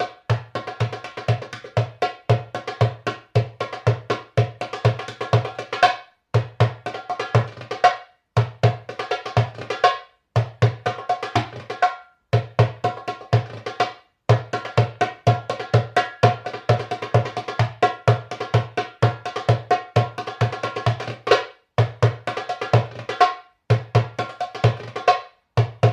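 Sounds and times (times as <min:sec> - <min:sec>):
hand drum played fast: 0:00.0 - 0:25.9.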